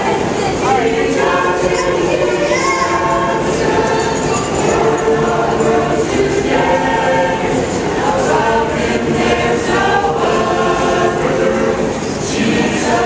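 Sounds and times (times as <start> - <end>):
choir singing a cappella: 0.0 - 13.0.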